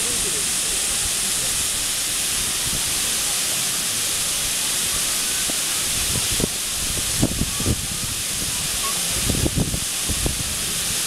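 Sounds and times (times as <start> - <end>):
mist nozzles hissing: 0.0 - 11.0.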